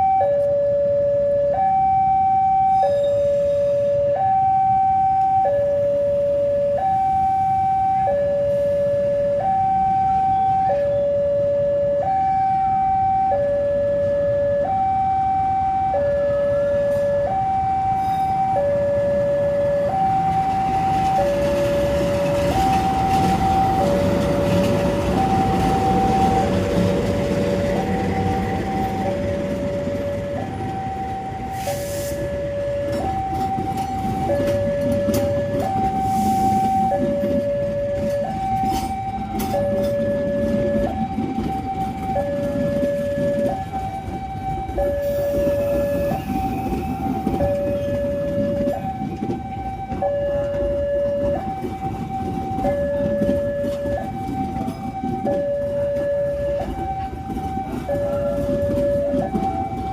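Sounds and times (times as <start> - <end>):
two-tone level-crossing alarm: 0.0 - 59.9
passing train rumble: 0.8 - 59.9.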